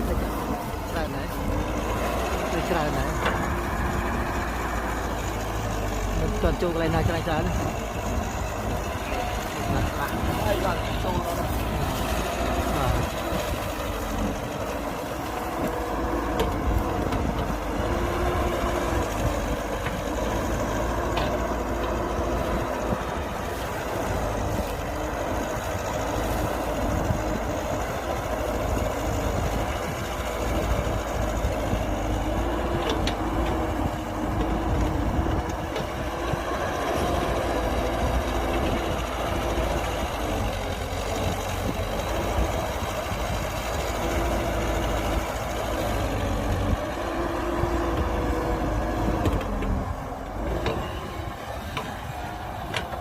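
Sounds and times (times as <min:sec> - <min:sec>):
heavy diesel engine drone: 0:00.0 - 0:53.0.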